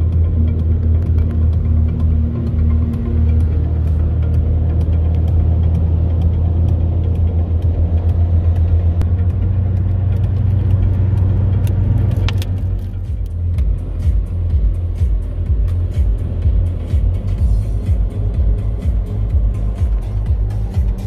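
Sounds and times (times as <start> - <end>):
car rumble at highway speed: 0.0 - 21.0.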